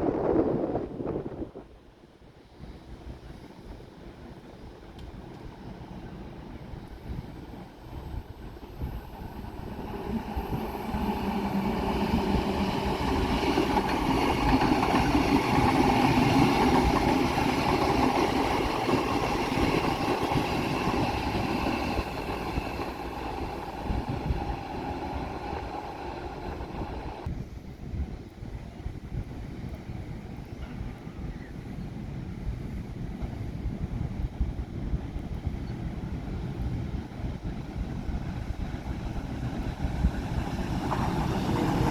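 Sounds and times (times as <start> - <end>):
train passing: 0.0 - 27.4, 31.7 - 41.9
wind buffeting microphone: 0.0 - 41.9.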